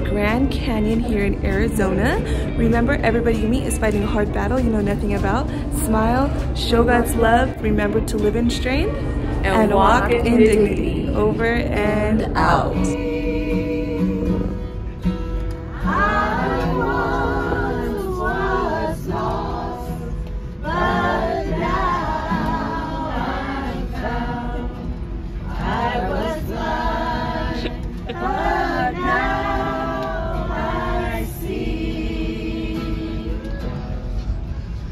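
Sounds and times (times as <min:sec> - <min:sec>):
women singing gospel choir: 0:00.8 - 0:14.8, 0:15.7 - 0:33.8.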